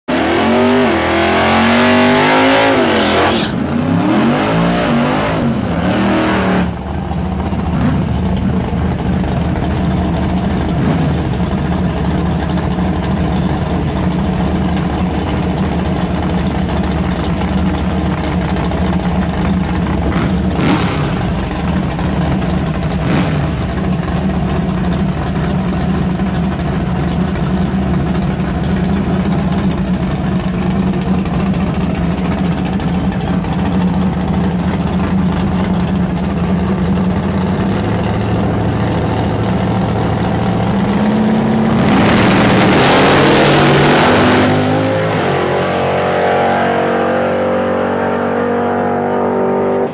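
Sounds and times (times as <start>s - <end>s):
car engine revving and idling: 0.1s - 49.9s.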